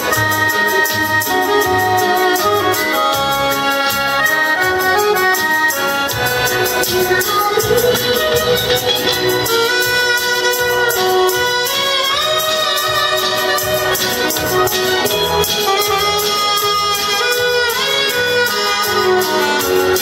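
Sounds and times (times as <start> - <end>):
accordion: 0.0 - 20.0
alto saxophone melody: 0.0 - 20.0
steady beat: 0.0 - 20.0.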